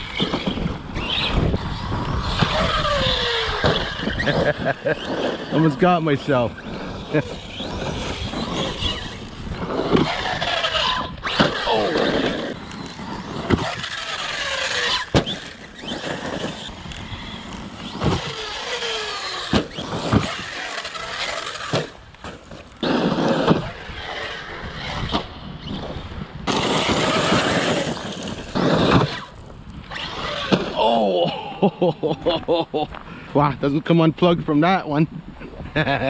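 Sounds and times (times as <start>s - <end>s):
electric motor whining: 0.0s - 31.1s.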